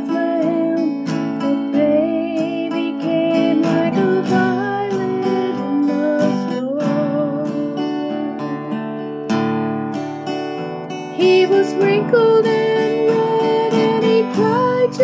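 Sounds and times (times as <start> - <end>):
woman singing: 0.0 - 9.4, 10.9 - 15.0
acoustic guitar strumming: 0.0 - 15.0.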